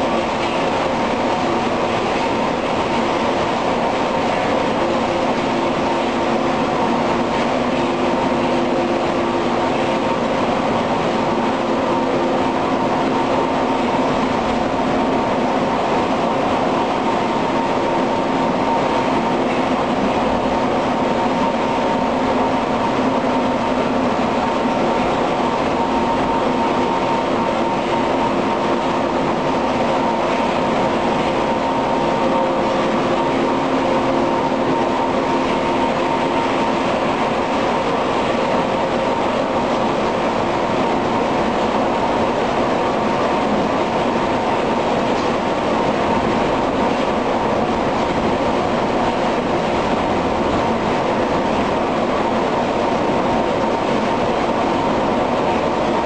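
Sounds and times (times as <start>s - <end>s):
industrial mill running: 0.0s - 56.0s
steady low hums: 0.0s - 56.0s.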